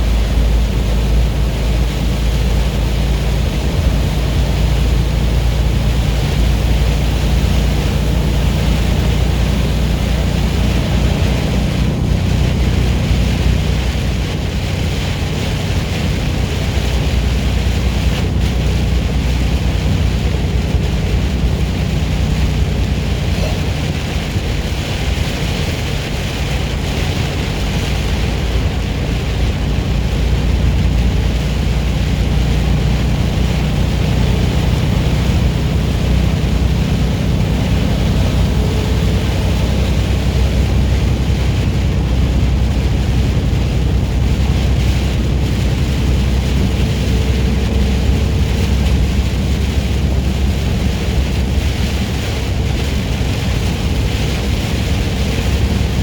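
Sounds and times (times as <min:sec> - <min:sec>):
diesel truck engine droning: 0:00.0 - 0:56.0
rain on truck: 0:00.0 - 0:56.0
tyres hissing on wet road: 0:00.0 - 0:56.0.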